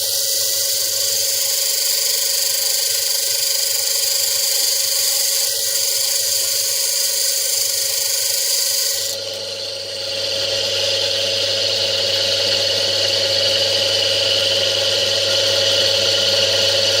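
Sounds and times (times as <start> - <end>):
electric motor whirring: 0.0 - 17.0.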